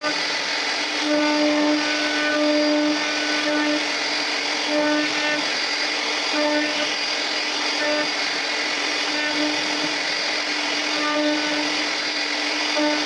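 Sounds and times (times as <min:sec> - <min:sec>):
router spindle cutting wood: 0:00.0 - 0:13.0.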